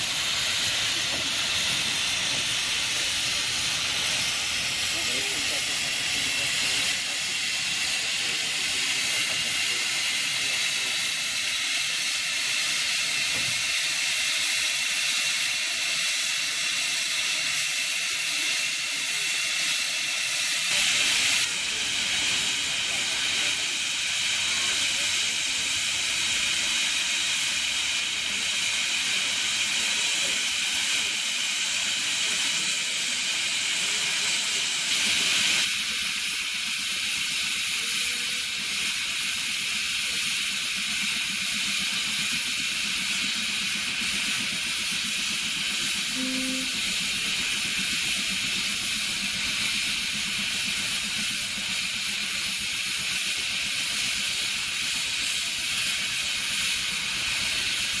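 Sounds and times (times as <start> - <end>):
steam hissing from locomotive: 0.0 - 58.0.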